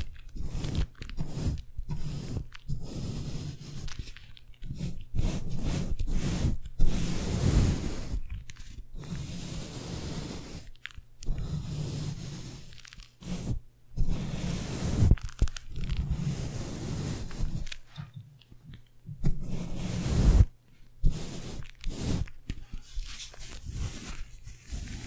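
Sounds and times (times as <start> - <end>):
brush scratching microphone grille: 0.0 - 17.9, 19.1 - 25.0.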